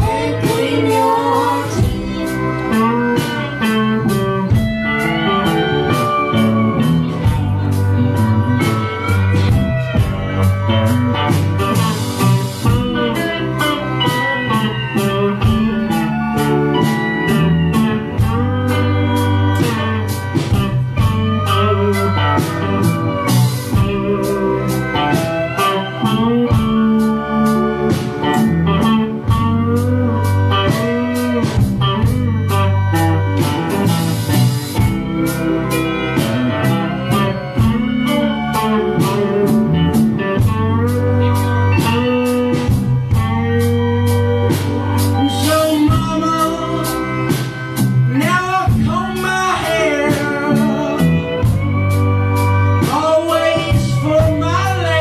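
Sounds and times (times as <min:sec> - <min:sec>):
person singing: 0:00.0 - 0:43.8, 0:44.4 - 0:55.0
live rock band playing: 0:00.0 - 0:55.0.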